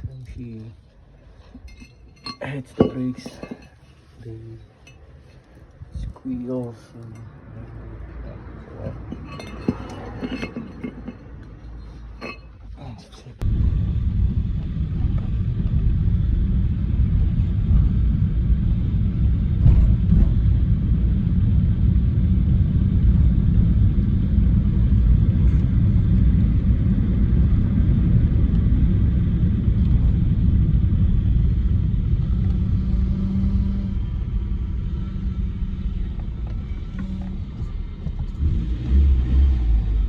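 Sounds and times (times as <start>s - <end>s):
car engine rumbling: 0.0s - 40.0s.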